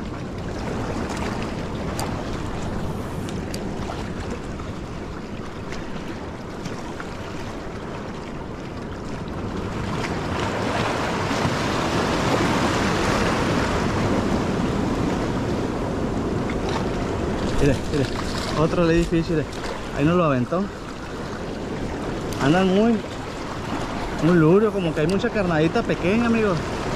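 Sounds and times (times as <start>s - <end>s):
sea waves washing against rocks: 0.0s - 26.9s
wind: 0.0s - 26.9s.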